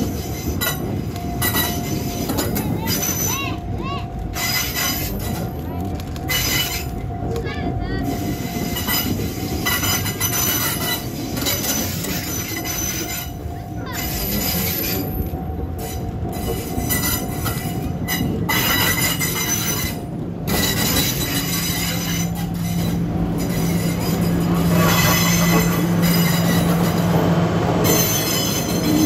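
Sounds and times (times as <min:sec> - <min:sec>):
train wheels squealing on rails: 0:00.0 - 0:03.6, 0:04.3 - 0:05.7, 0:06.3 - 0:29.0.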